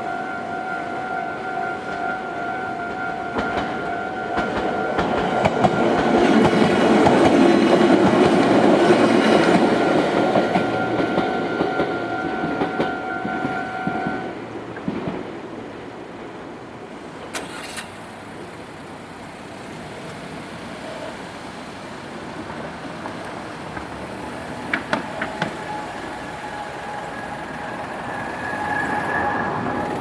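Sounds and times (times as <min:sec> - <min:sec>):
road traffic passing: 0:00.0 - 0:30.0.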